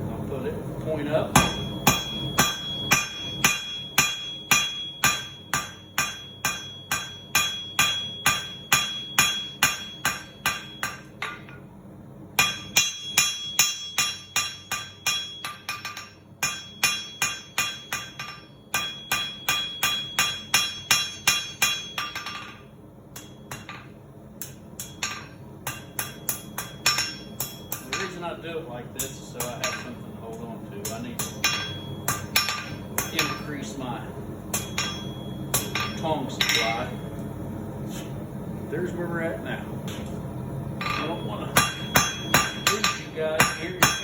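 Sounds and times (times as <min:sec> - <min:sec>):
hammer striking steel on anvil: 0:01.3 - 0:11.6, 0:12.4 - 0:28.4, 0:29.0 - 0:33.8, 0:34.4 - 0:37.0, 0:40.8 - 0:44.0.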